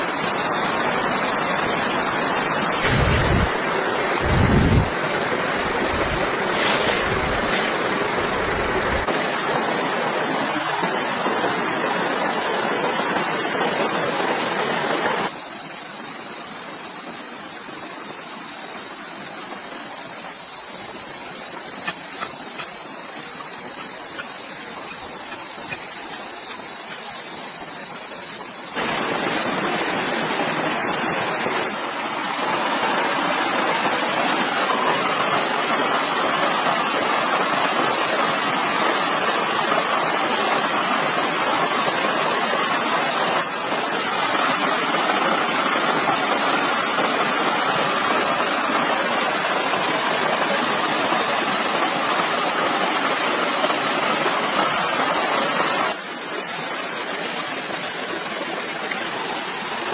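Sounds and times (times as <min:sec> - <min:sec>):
insects buzzing: 0:00.0 - 0:59.9
outdoor ambience: 0:00.0 - 0:59.9.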